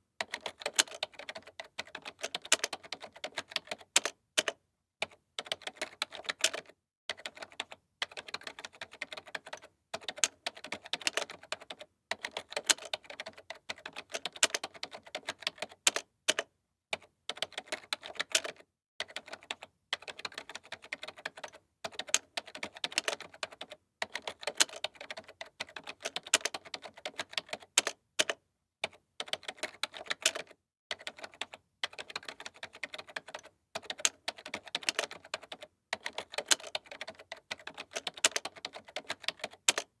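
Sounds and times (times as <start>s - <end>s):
computer keyboard typing: 0.2s - 40.0s.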